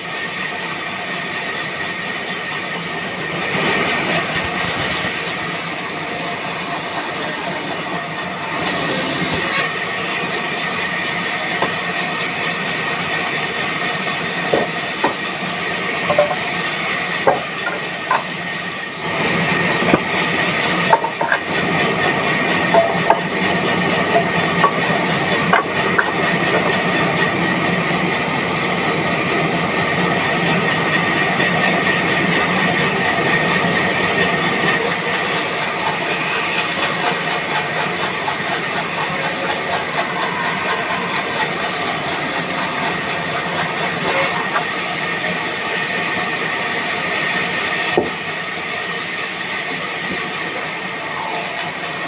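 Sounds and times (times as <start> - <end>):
band sawmill running: 0.0 - 52.0.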